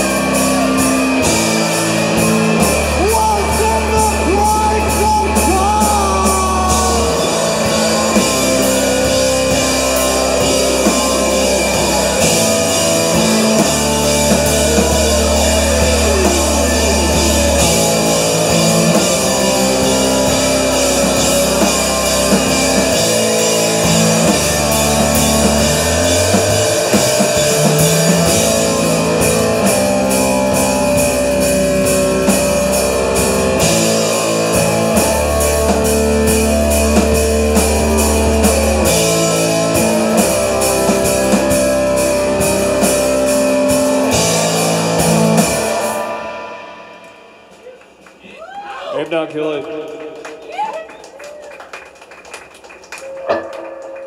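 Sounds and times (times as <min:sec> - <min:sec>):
drum kit: 0:00.0 - 0:48.7
bass guitar: 0:00.0 - 0:49.0
electric guitars: 0:00.0 - 0:54.0.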